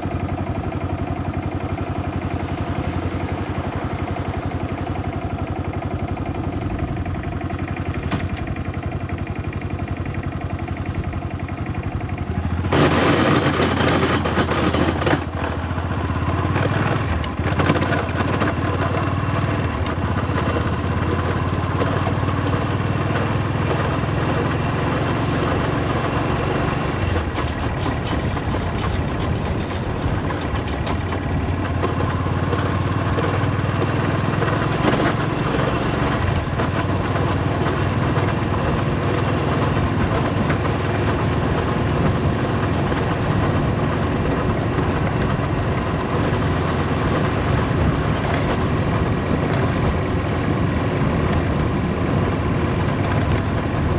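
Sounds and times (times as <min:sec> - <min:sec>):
engine rattling clatter: 0:00.0 - 0:53.9
motorcycle engine idling: 0:00.0 - 0:53.9.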